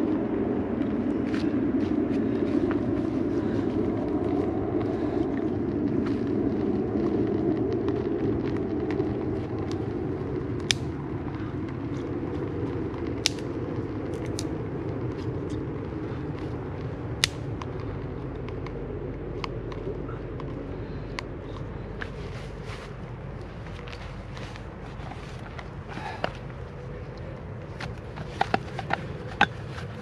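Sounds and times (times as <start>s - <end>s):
low fire rumble: 0.0s - 30.0s
sharp fire snaps: 0.0s - 30.0s
wood fire crackling: 0.0s - 30.0s.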